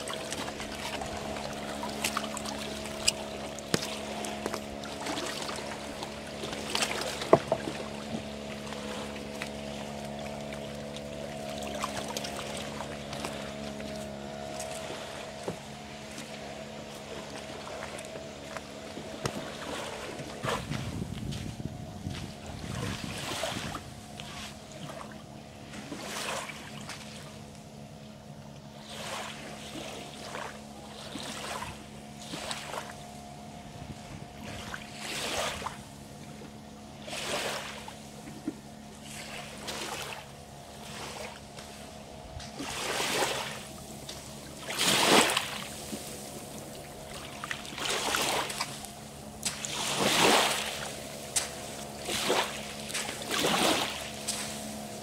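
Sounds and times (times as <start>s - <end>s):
small waves washing onto shore: 0.0s - 27.9s, 28.8s - 55.0s
faint steady hum: 0.0s - 55.0s.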